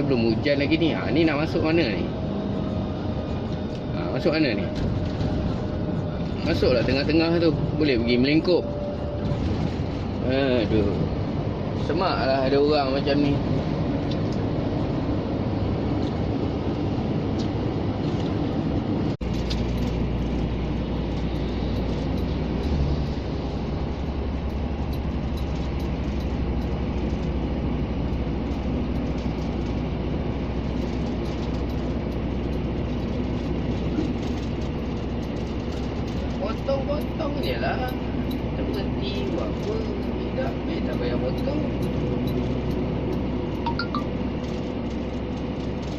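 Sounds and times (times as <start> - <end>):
lorry diesel engine drone: 0.0 - 45.9
road noise inside cab: 0.0 - 45.9.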